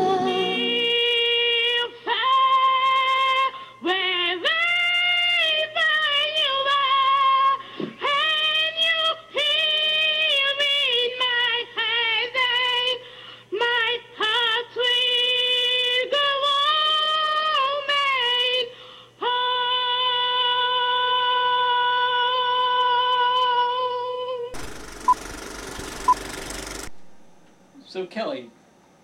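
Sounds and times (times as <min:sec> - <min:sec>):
woman singing karaoke: 0:00.0 - 0:24.5.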